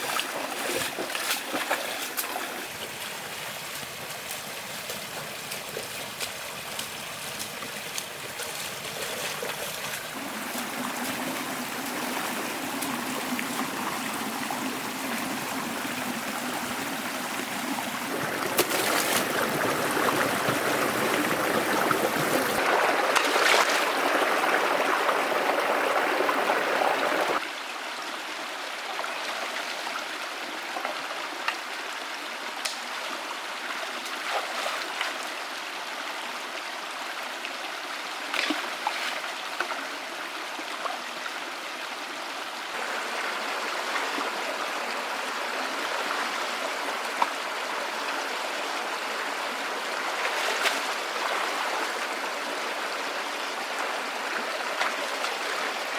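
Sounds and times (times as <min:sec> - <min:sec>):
stream flowing: 0:00.0 - 0:55.9.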